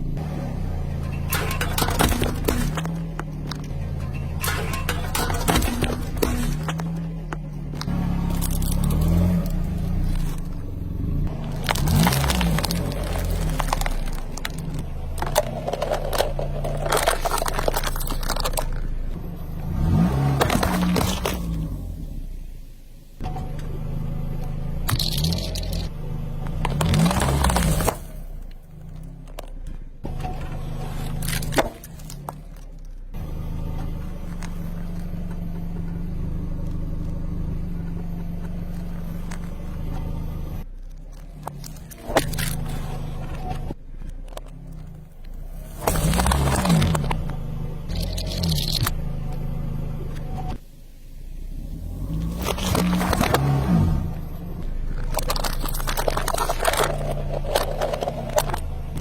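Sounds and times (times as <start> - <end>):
objects cracking under tyres: 0.0 - 50.7, 51.5 - 59.0
car engine revving: 0.0 - 59.0.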